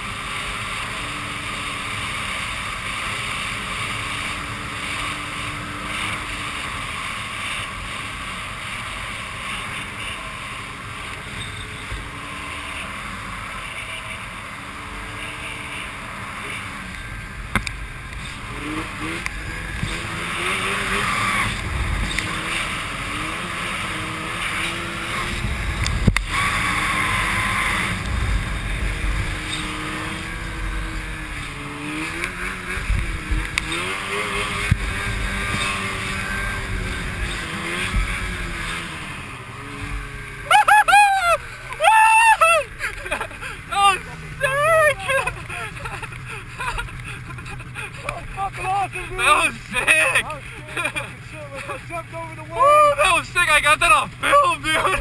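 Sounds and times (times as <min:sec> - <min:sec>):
rush of wind and snow: 0:00.0 - 0:55.0
snowmobile engine revving: 0:00.0 - 0:55.0.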